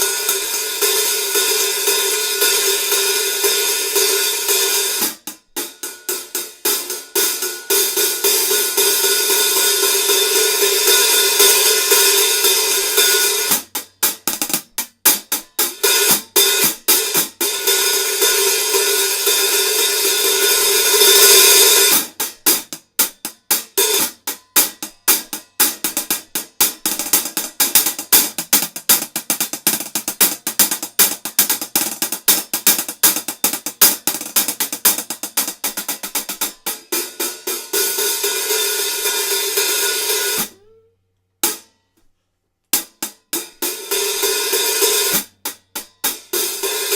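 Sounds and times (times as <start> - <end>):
hi-hat cymbals being played: 0.0 - 40.5.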